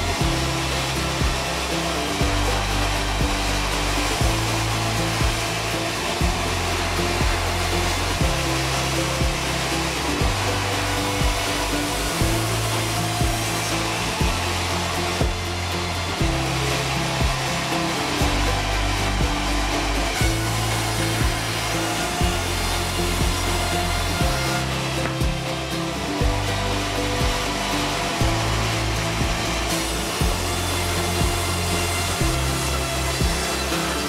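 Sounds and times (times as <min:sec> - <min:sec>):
background music with beat: 0:00.0 - 0:34.0
band saw cutting boards: 0:00.0 - 0:34.0.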